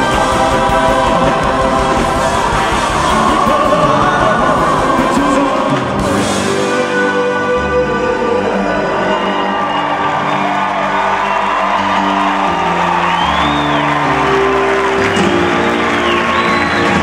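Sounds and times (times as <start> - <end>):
live band music with singing: 0.0 - 17.0.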